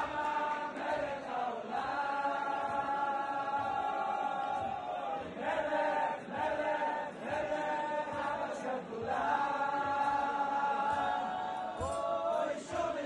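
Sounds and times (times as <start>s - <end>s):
men singing in unison: 0.0s - 13.0s.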